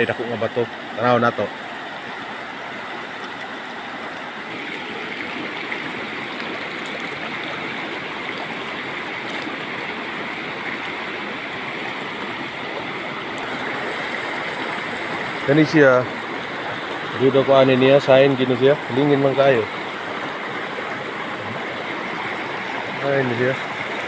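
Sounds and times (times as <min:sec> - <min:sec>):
stream water running: 0:00.0 - 0:24.0.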